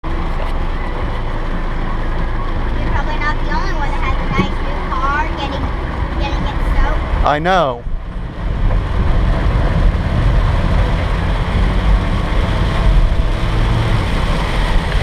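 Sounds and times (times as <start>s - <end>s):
car driving rumble: 0.0s - 15.0s
heavy rain on car roof: 0.1s - 15.0s.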